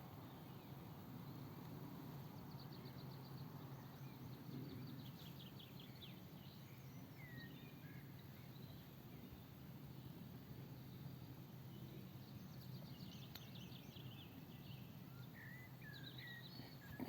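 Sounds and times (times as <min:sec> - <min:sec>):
birdsong: 0:00.0 - 0:17.0.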